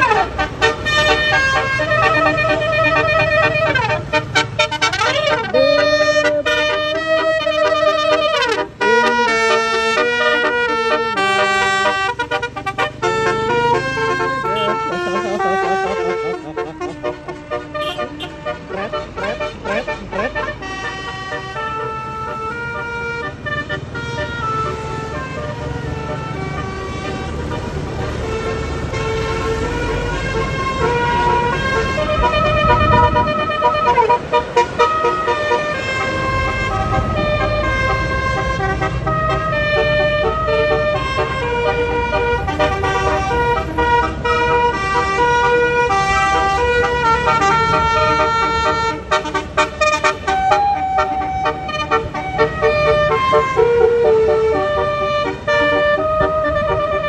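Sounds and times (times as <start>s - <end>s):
bus multi-tone horn melody: 0.0s - 57.0s
vehicle engine rumble: 0.0s - 57.0s.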